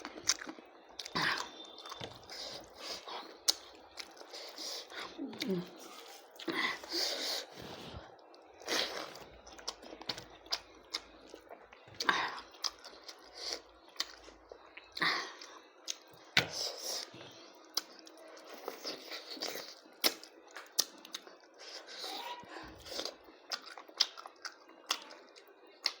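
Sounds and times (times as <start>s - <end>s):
person chewing with mouth clicks: 0.0s - 22.0s, 22.8s - 26.0s.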